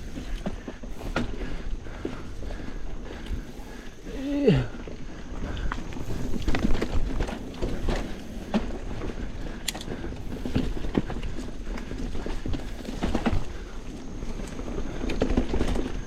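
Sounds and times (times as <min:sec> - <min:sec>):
bike chain rattling: 0:00.0 - 0:16.0
bike tires knocking over bumps: 0:00.0 - 0:16.0
low rumble of rolling bike: 0:00.0 - 0:16.0.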